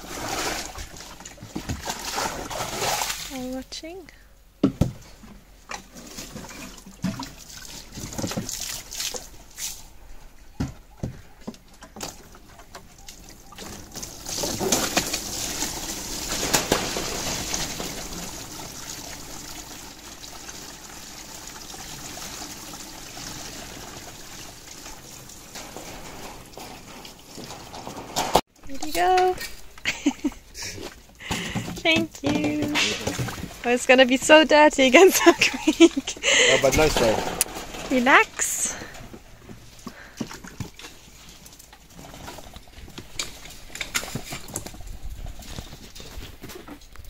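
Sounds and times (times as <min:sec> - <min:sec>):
water splashing: 0:00.0 - 0:03.6, 0:05.6 - 0:10.1, 0:11.8 - 0:46.1.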